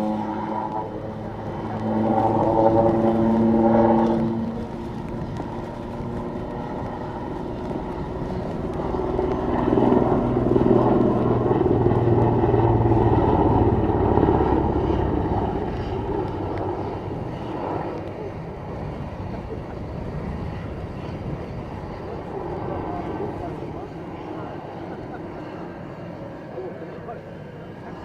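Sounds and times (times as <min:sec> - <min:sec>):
helicopter flying past: 0:00.0 - 0:28.0.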